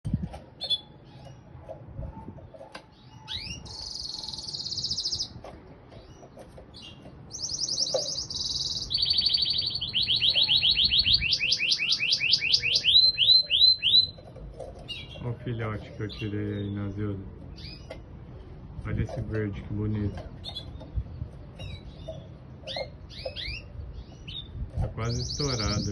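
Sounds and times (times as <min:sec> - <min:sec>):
canary singing trills: 0:00.0 - 0:25.9.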